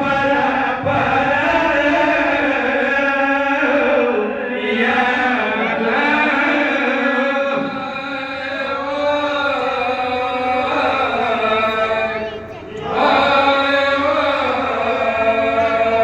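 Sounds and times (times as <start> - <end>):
man chanting lament: 0.0 - 16.0.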